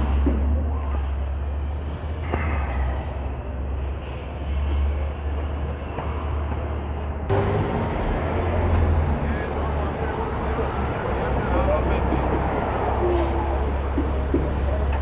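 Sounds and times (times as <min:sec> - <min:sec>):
low vehicle rumble: 0:00.0 - 0:15.0
road noise: 0:00.0 - 0:15.0.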